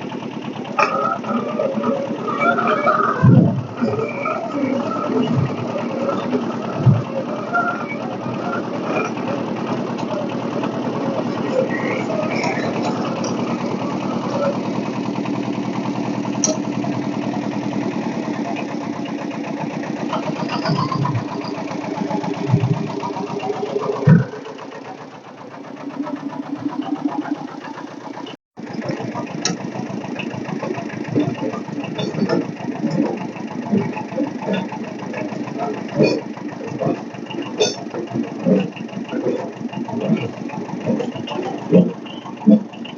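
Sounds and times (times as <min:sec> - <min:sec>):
engine chugging: 0:00.0 - 0:42.9.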